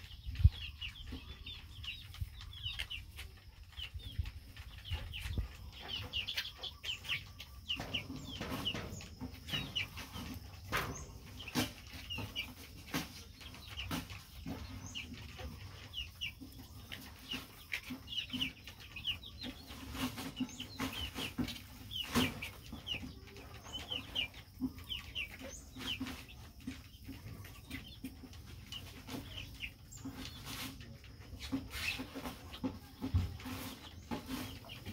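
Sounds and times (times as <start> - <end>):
chick peeping: 0.0 - 34.9.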